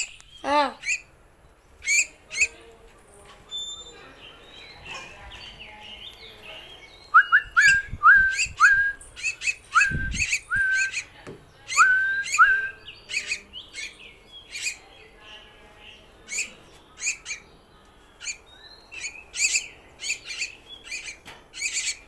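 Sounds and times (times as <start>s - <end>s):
myna bird calling: 0.0s - 2.8s, 3.5s - 22.0s.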